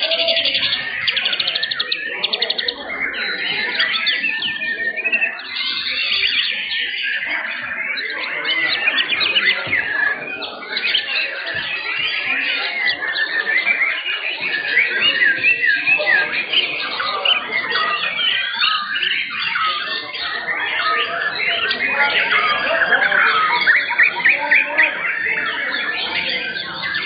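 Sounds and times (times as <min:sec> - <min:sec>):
songbirds singing chorus: 0:00.0 - 0:27.0.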